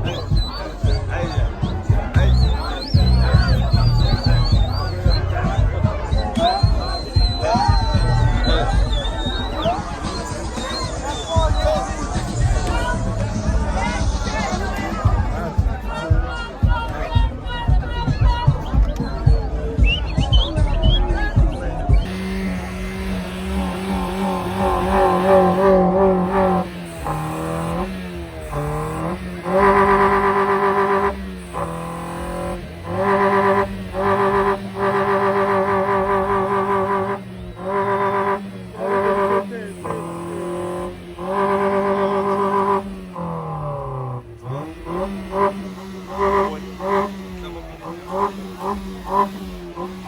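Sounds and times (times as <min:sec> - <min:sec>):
car engine revving: 0:00.0 - 0:17.1, 0:21.9 - 0:50.0.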